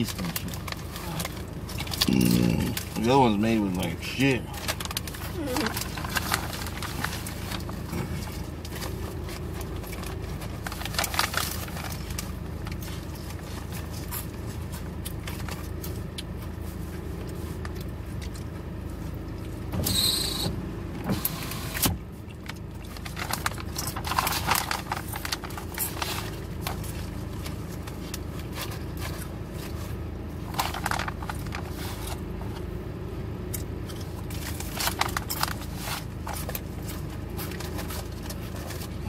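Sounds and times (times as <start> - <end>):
packaging crinkling: 0.0 - 3.1, 4.5 - 18.4, 22.3 - 32.7, 33.6 - 39.0
low hum inside a car: 0.0 - 39.0.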